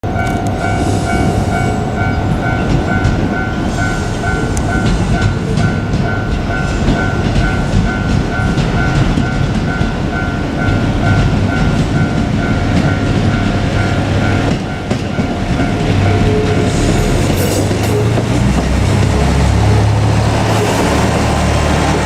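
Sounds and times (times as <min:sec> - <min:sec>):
diesel railcar rumble: 0:00.0 - 0:22.0
level-crossing alarm ringing: 0:00.0 - 0:22.0
wheels clattering over rail joints: 0:00.0 - 0:22.0.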